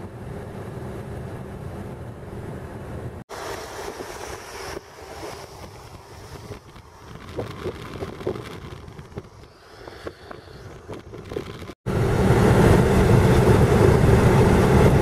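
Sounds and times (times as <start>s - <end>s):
tyres on wet road: 0.0s - 15.0s.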